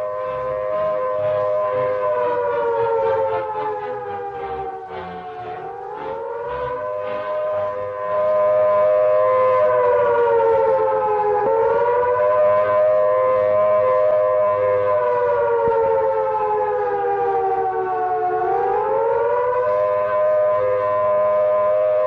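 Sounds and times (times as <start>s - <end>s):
air-raid siren wailing: 0.0s - 22.0s.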